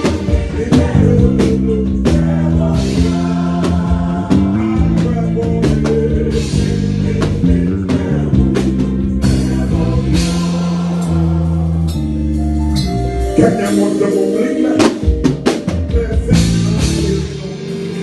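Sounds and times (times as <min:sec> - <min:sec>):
live band with singing: 0:00.0 - 0:18.0.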